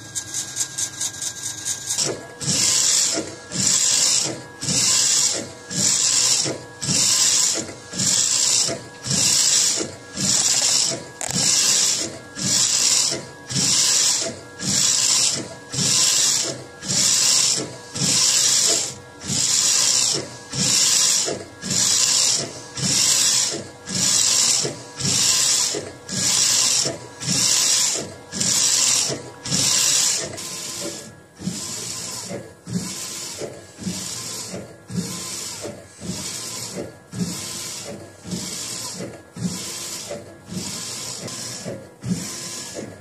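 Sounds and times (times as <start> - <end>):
printer carriage sweeping: 2.0 - 43.0.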